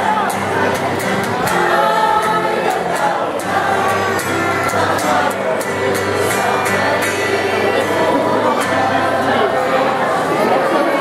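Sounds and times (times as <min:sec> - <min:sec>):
acoustic guitar: 0:00.0 - 0:11.0
mixed choir singing: 0:00.0 - 0:11.0.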